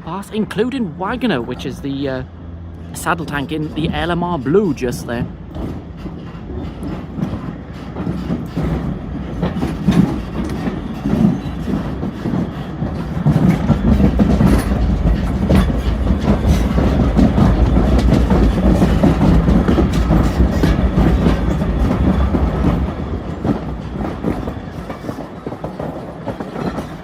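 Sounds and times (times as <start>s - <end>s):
low train rumble: 0.0s - 27.0s
train wheels clicking over rail joints: 2.7s - 27.0s.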